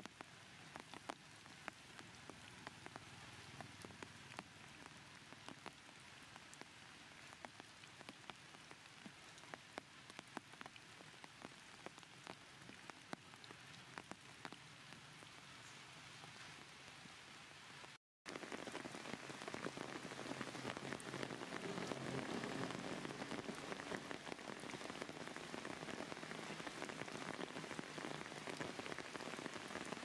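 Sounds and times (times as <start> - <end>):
raindrop ticks: 0.0 - 16.7, 17.8 - 30.0
faint rain falling: 0.0 - 30.0.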